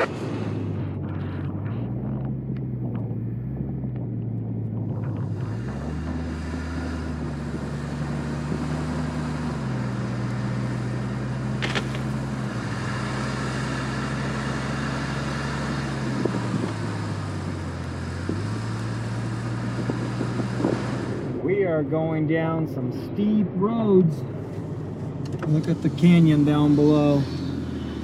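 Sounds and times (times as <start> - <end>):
low engine drone: 0.0 - 28.0
tyre and road noise: 0.0 - 28.0.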